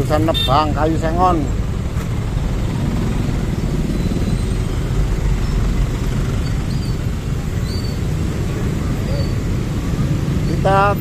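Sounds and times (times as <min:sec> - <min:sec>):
motor scooter engines rumbling: 0:00.0 - 0:11.0.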